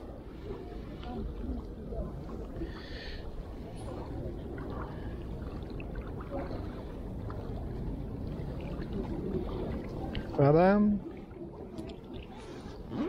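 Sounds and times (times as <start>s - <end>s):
water lapping: 0.0s - 13.0s.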